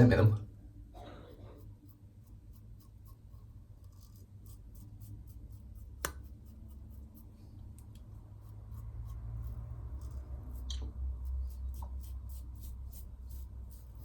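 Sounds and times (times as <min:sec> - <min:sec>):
razor scraping stubble: 0:01.2 - 0:14.0.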